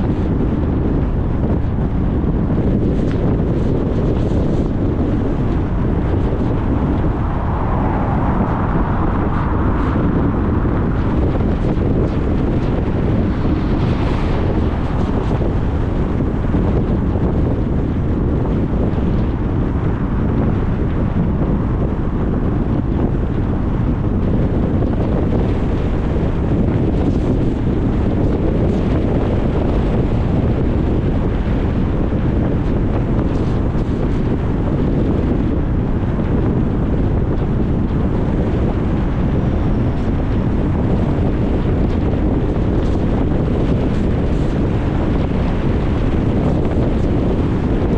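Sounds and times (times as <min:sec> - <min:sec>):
car road and wind noise: 0:00.0 - 0:47.9.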